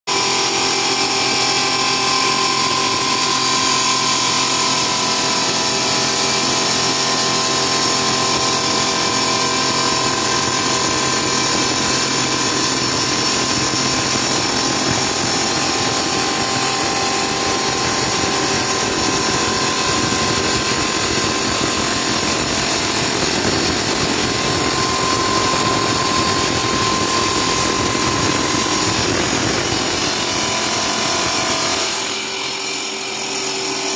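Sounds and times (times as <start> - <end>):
cutting machine whine: 0.1 - 33.9.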